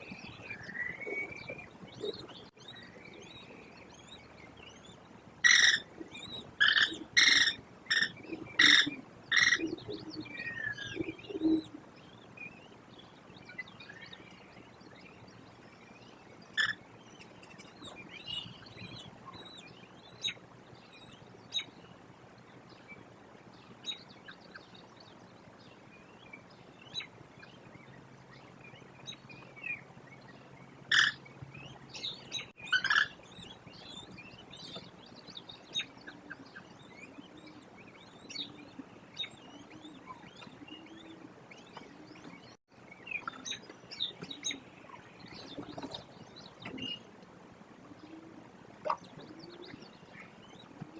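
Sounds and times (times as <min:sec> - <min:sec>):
wild birds chirping and calling: 0:00.0 - 0:50.9.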